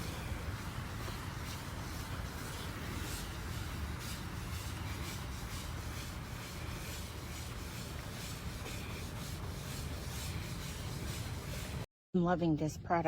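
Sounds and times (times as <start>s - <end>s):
sponge scrubbing car paint: 0.0s - 11.9s.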